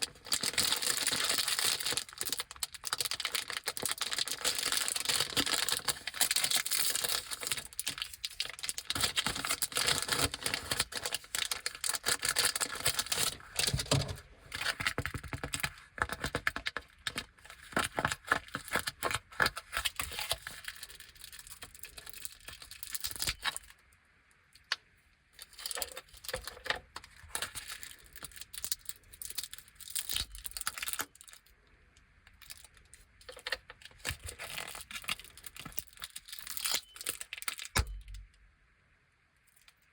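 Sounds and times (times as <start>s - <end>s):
plastic packaging crinkling and tearing: 0.0s - 23.8s, 25.4s - 31.5s, 32.3s - 38.1s.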